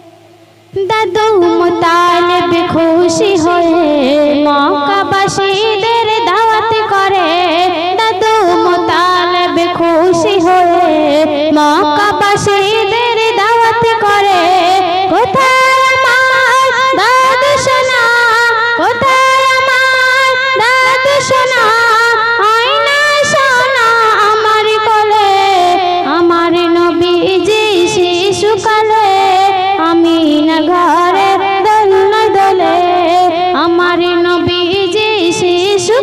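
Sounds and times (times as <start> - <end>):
girl singing into a microphone: 0.0 - 36.0.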